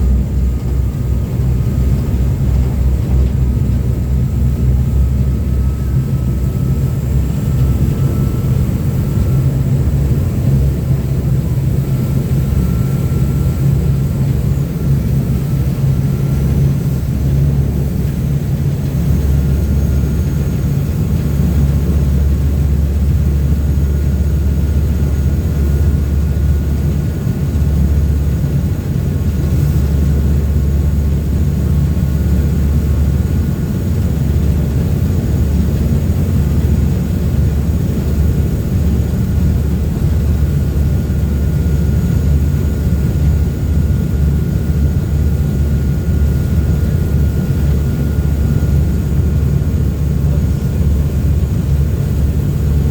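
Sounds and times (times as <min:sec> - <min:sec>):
boat engines droning: 0:00.0 - 0:52.9
faint engine whine: 0:00.0 - 0:52.9.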